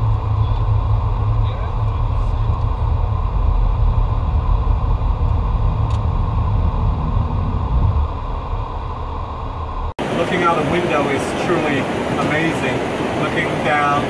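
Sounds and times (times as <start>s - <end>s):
jet engines and airflow rumble: 0.0s - 14.0s.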